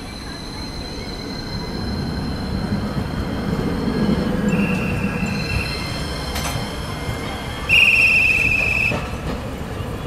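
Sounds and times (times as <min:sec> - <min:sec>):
high wheel squeal: 0:00.0 - 0:09.2
tram wheels rumbling on rails: 0:00.0 - 0:10.0.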